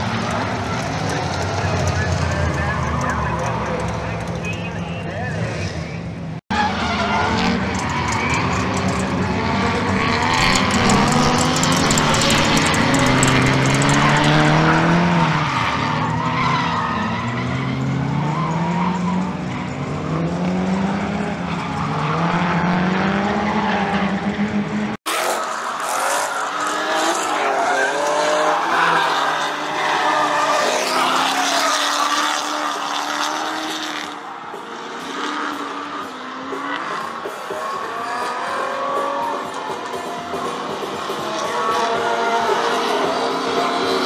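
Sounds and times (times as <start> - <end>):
tyres squealing and skidding: 0.0 - 24.4, 25.1 - 44.0
car engines revving: 0.0 - 44.0.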